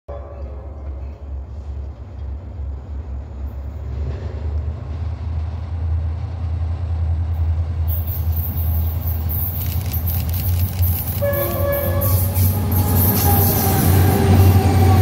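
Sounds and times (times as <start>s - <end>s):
diesel locomotive rumbling: 0.1s - 15.0s.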